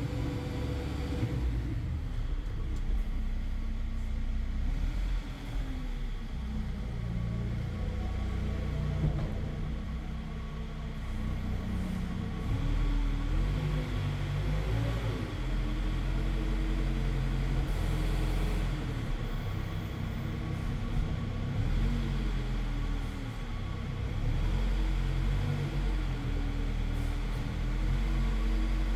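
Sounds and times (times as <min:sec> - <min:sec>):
loader engine and hydraulics running: 0:00.0 - 0:28.9.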